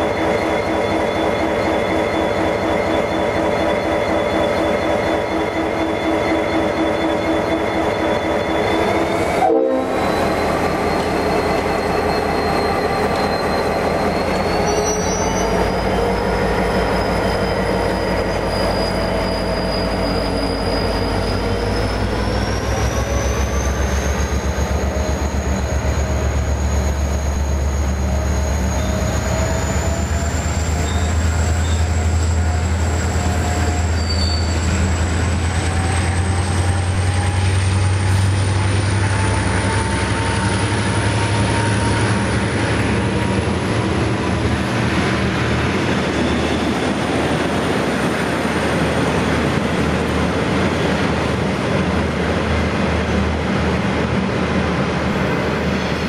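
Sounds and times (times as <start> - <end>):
diesel locomotive engine throb: 0.0 - 56.0.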